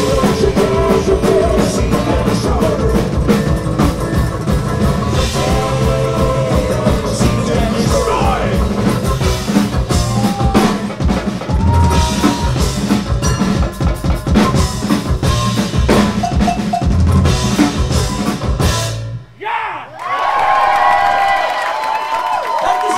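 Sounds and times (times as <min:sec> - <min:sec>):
heavy metal on bluegrass instruments: 0:00.0 - 0:19.1
hard-hit drum kit beat: 0:00.0 - 0:19.2.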